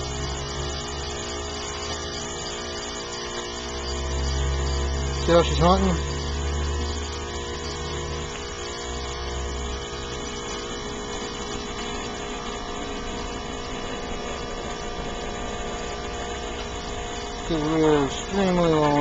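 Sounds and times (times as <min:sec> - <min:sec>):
air conditioner compressor hum: 0:00.0 - 0:19.0
condenser fan: 0:00.0 - 0:19.0.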